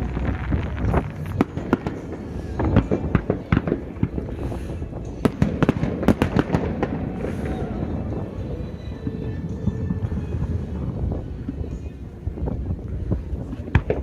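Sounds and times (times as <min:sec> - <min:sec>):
fireworks bangs and crackles: 0:00.0 - 0:14.0
steady low rumble: 0:00.0 - 0:14.0.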